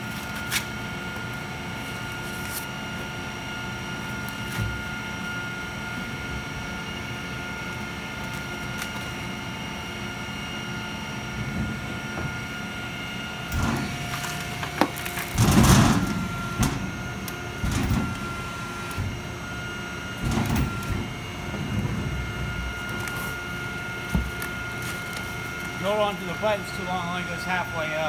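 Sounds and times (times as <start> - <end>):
industrial machine whining: 0.0 - 28.0.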